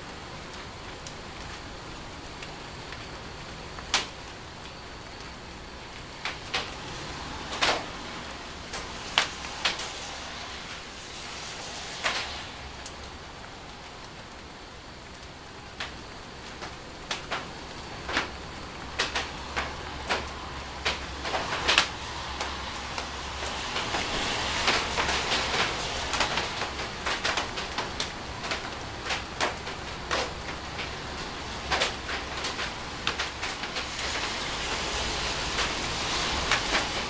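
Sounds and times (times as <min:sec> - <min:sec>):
heavy rain falling: 0:00.0 - 0:37.0
raindrops ticking close by: 0:00.0 - 0:37.0.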